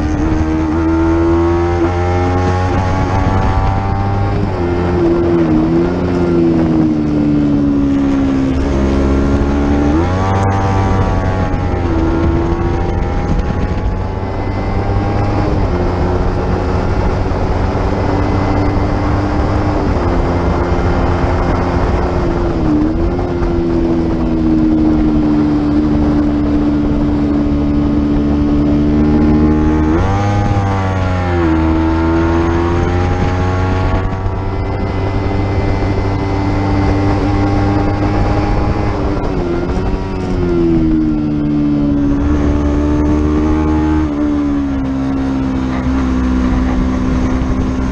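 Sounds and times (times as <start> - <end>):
motorcycle engine at high revs: 0.0 - 47.9.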